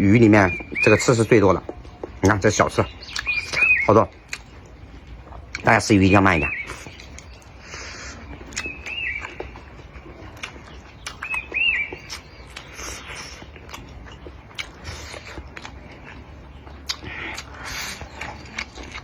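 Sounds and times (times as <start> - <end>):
chewing fish: 0.0 - 19.0
small bird chirping: 0.1 - 19.0.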